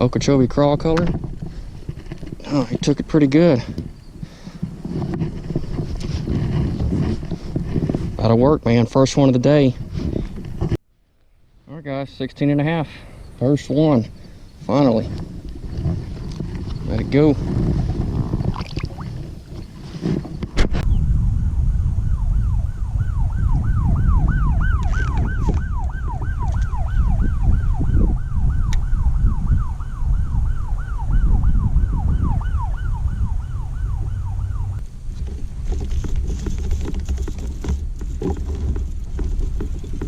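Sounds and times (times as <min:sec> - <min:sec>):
wind rumbling on microphone: 0:00.0 - 0:10.8, 0:11.5 - 0:40.0.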